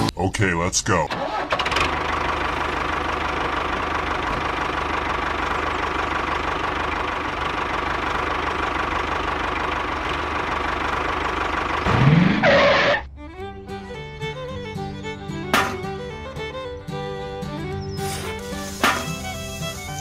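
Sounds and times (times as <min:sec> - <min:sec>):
small tractor engine running: 0:01.1 - 0:13.0, 0:13.8 - 0:20.0.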